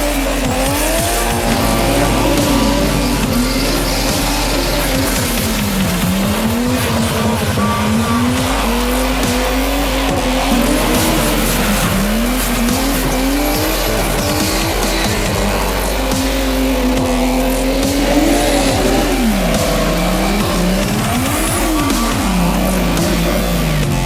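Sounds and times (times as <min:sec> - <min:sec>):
car engine revving: 0:00.0 - 0:24.0
music track: 0:00.0 - 0:24.0
tyres sliding: 0:00.0 - 0:24.0.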